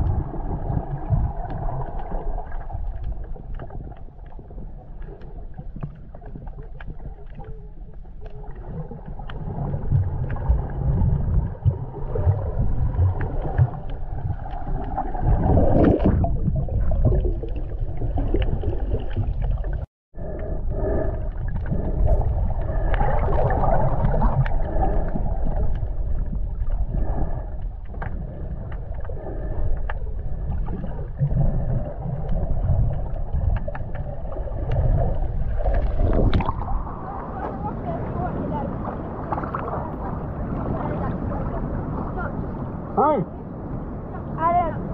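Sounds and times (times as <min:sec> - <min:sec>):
muffled underwater rumble: 0:00.0 - 0:44.9.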